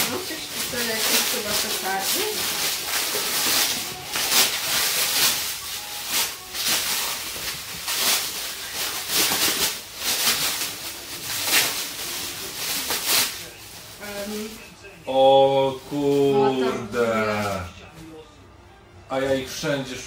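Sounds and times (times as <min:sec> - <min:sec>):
plastic wrapping crinkling: 0:00.0 - 0:17.6.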